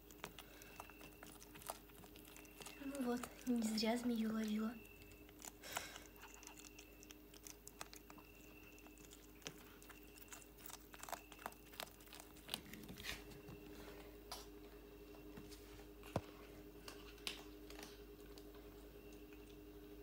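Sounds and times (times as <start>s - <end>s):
cat chewing and crunching: 0.0s - 14.6s, 15.9s - 20.0s.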